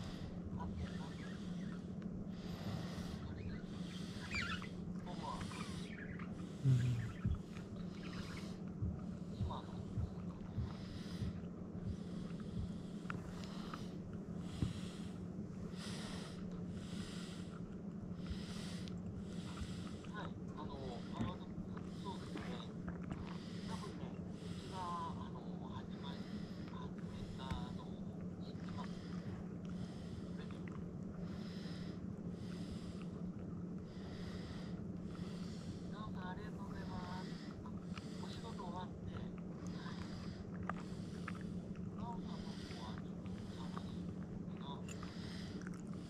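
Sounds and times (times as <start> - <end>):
dog breathing through nose: 0.0 - 25.2, 28.6 - 46.0
steady low hum: 0.0 - 46.0.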